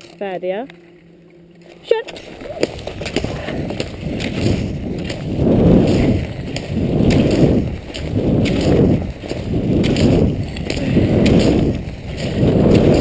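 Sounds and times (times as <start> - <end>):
skis scraping over snow: 1.8 - 13.0
ski poles clicking: 2.0 - 13.0.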